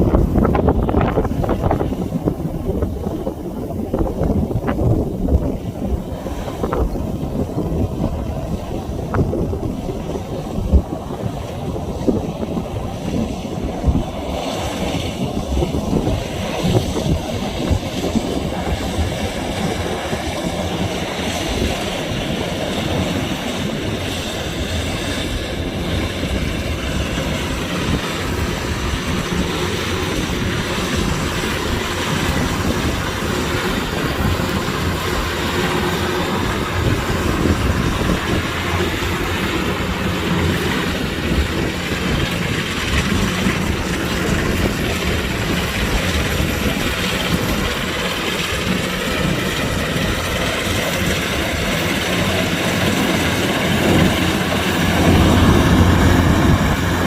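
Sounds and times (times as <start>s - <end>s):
combine harvester engine rumbling: 0.0s - 57.0s.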